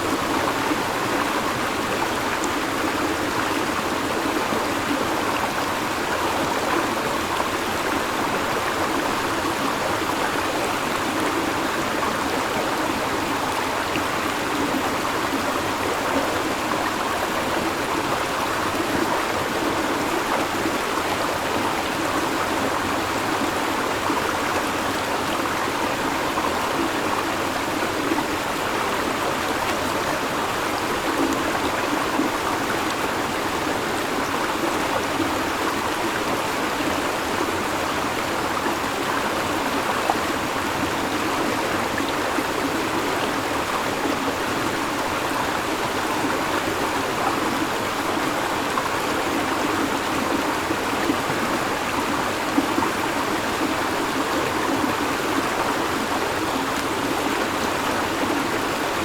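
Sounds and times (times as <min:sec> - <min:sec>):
river water babbling over stones: 0:00.0 - 0:59.0.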